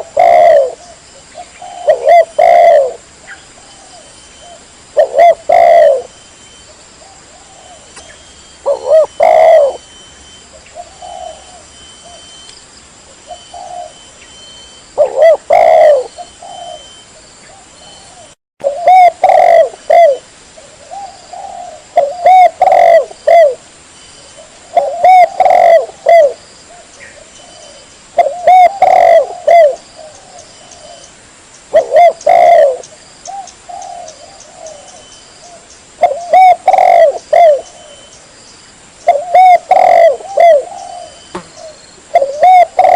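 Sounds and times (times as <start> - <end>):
dove cooing: 0.0 - 6.2, 7.0 - 12.4, 13.2 - 14.1, 15.0 - 23.6, 24.2 - 31.1, 31.7 - 38.2, 39.0 - 42.9.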